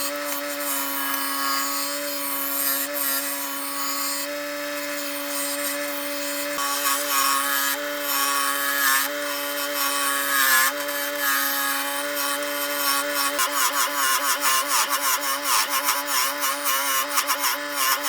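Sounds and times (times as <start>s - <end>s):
power tool motor whine: 0.0s - 18.0s
tool scraping and rasping wood: 0.0s - 18.0s.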